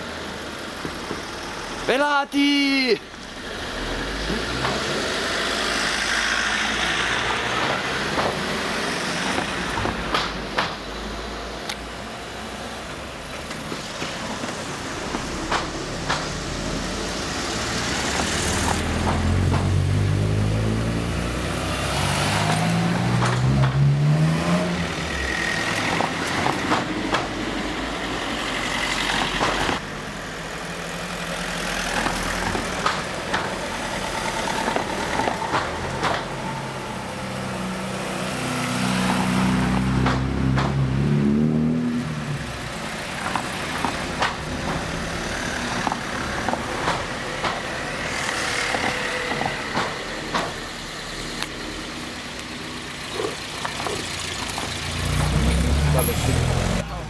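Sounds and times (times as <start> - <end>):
cars driving past: 0.0 - 57.0
engine revving: 3.0 - 11.7, 13.5 - 57.0.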